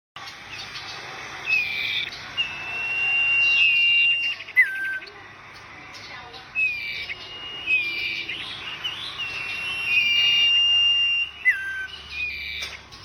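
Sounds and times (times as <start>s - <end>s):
songbird whistling: 0.2s - 13.0s.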